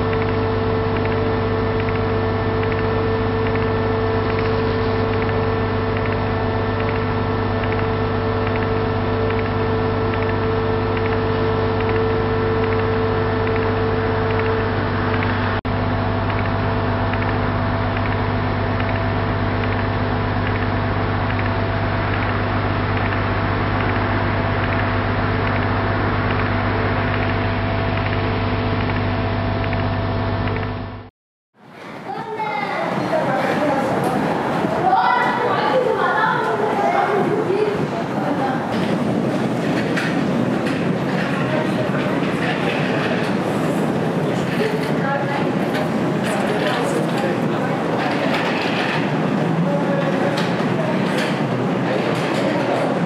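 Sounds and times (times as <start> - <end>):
heavy machinery humming: 0.0 - 53.0.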